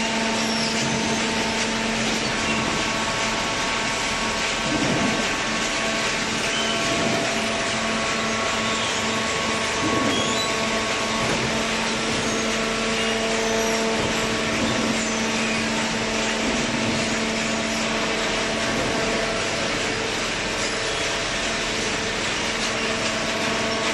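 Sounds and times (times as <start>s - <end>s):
baler machine humming: 0.0s - 23.9s.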